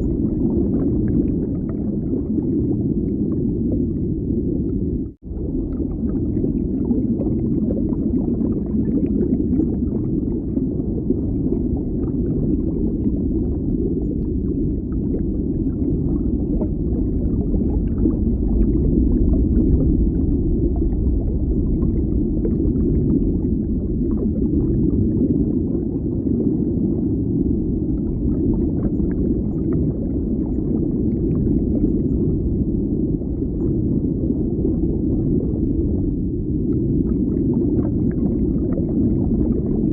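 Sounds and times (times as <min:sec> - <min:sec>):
faint crackling and bubbling: 0:00.0 - 0:39.9
underwater low rumble: 0:00.0 - 0:39.9.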